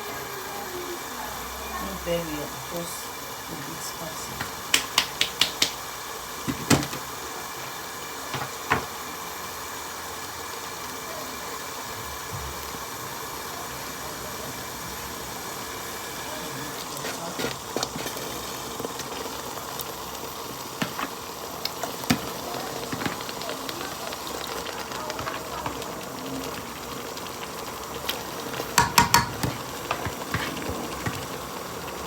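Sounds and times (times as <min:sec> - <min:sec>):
stew simmering with hiss: 0:00.0 - 0:32.0.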